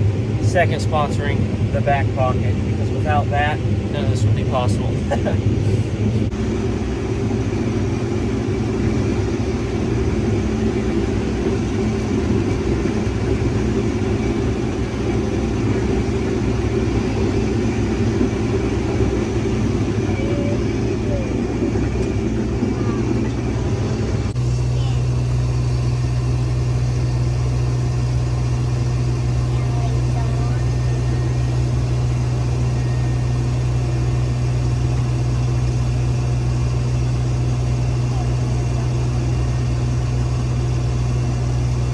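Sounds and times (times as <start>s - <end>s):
combine harvester drone: 0.0s - 41.9s.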